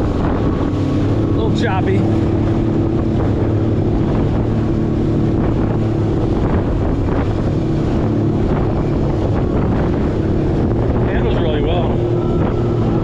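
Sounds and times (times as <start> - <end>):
choppy water: 0.0 - 13.0
jet ski engine running: 0.0 - 13.0
wind buffeting microphone: 0.0 - 13.0.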